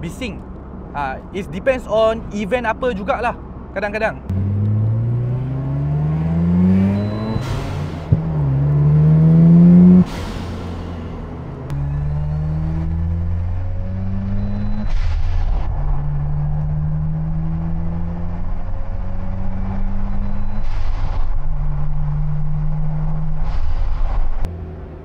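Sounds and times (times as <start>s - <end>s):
car engine accelerating through gears: 4.3s - 25.0s.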